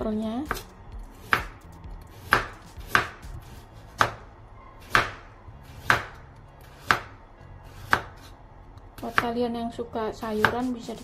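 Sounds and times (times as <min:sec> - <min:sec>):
knife chopping on wooden board: 0:00.5 - 0:08.3, 0:09.0 - 0:09.4, 0:10.2 - 0:11.0.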